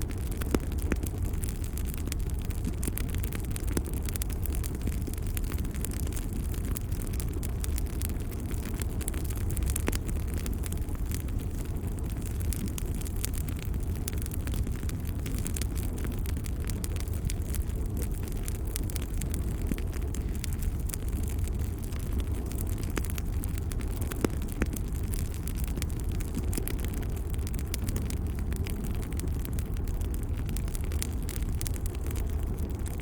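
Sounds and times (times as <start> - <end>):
low steady rumble: 0.0 - 33.0
wood fire crackling: 0.0 - 33.0.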